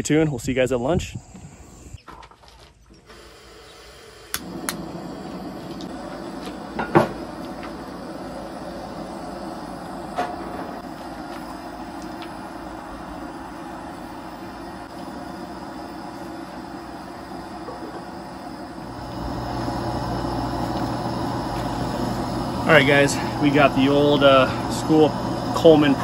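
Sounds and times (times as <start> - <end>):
steady rushing noise: 4.4 - 26.0.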